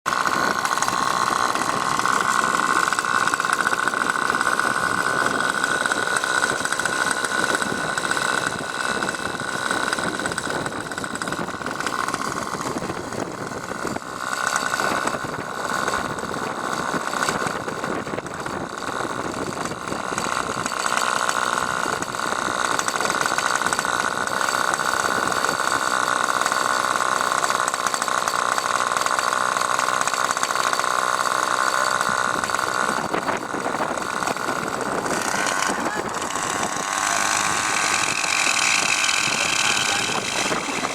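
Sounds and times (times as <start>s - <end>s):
model helicopter engine running: 0.0s - 40.9s.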